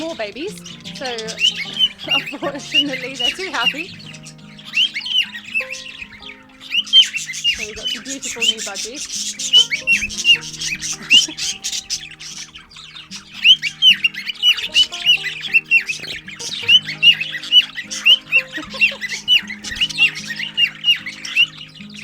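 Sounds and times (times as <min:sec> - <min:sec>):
background music: 0:00.0 - 0:22.0
budgerigars chattering: 0:00.0 - 0:22.0.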